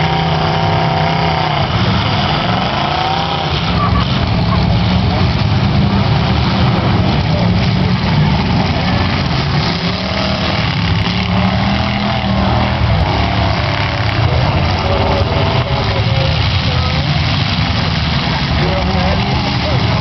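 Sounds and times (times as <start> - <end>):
car engines running: 0.0 - 20.0.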